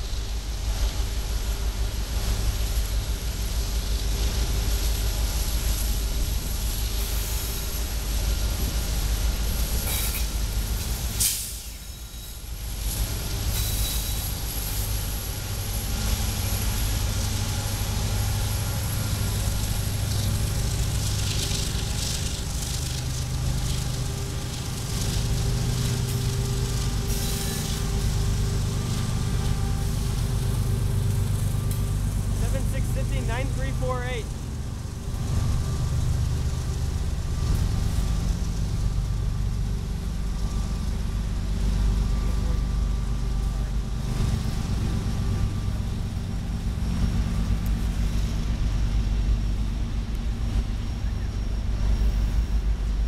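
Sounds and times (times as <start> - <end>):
diesel locomotive engines rumbling: 0.0 - 53.0.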